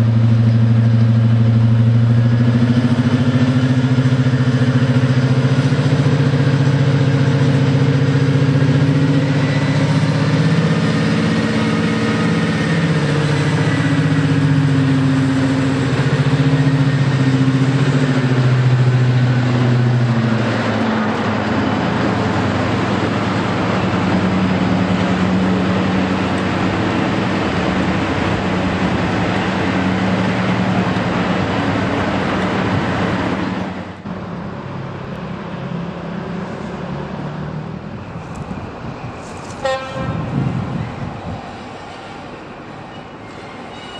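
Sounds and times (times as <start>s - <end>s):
locomotive diesel engines running: 0.0s - 43.9s.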